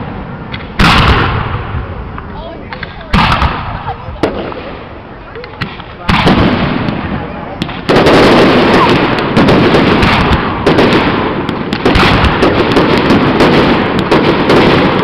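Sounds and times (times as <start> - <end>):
fireworks bangs: 0.0 - 15.0
small firework pops: 0.5 - 1.5, 2.1 - 15.0.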